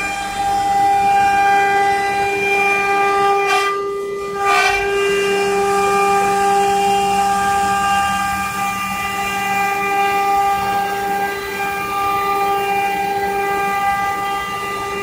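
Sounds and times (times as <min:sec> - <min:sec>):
machine spindle whining: 0:00.0 - 0:15.0.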